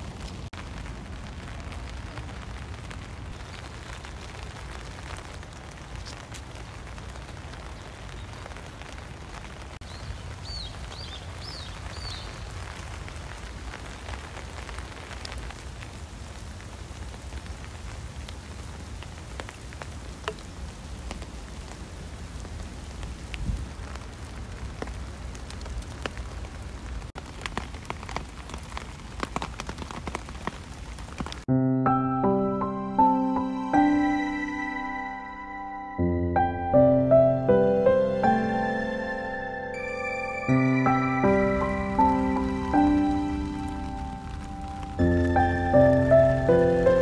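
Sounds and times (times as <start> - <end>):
rain on leaves and wood: 0.0 - 31.5, 40.4 - 47.0.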